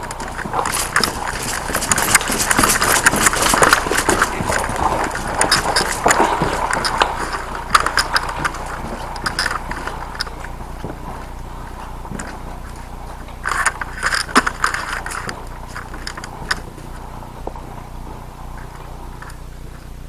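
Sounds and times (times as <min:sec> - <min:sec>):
gear knocking and rattling: 0:00.0 - 0:20.0.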